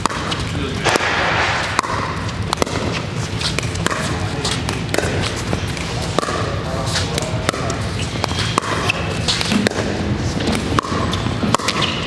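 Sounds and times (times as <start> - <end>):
ball bouncing on court: 0.0 - 12.0
paddles hitting plastic ball: 0.0 - 12.0.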